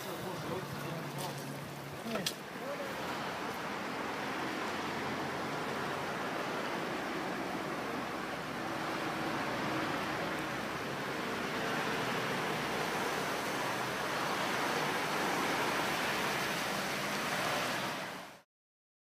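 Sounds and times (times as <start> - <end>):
car tyres swishing through water: 0.0 - 18.4
floodwater rushing and splashing: 0.0 - 18.4.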